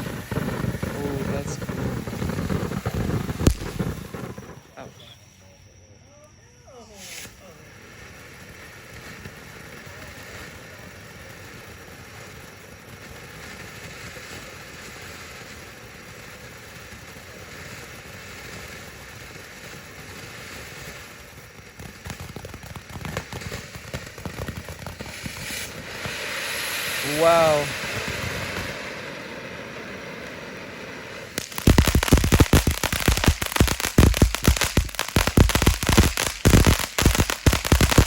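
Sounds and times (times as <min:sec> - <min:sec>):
crackling firework pops: 0:00.0 - 0:05.1, 0:07.0 - 0:38.0
ground firework hissing: 0:00.0 - 0:05.8, 0:06.5 - 0:38.0.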